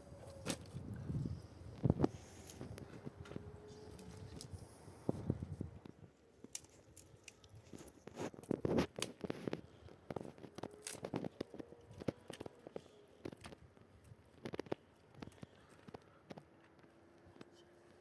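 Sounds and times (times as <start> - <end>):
crunching and rustling: 0.1 - 18.0.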